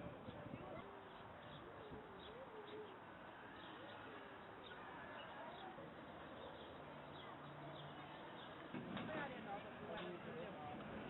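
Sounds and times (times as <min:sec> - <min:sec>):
distant voices murmuring: 0:00.0 - 0:11.0.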